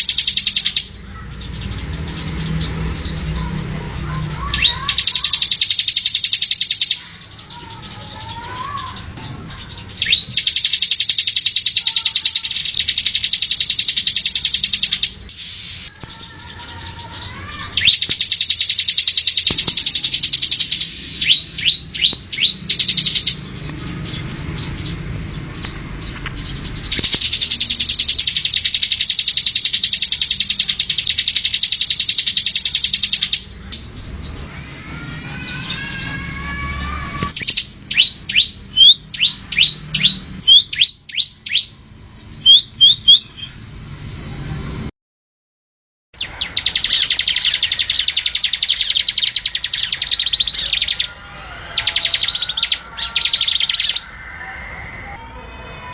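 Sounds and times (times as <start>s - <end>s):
bird chirps: 0.0s - 36.2s, 36.8s - 43.6s, 46.2s - 55.9s
bird buzzy trills: 0.0s - 43.6s, 46.2s - 55.9s.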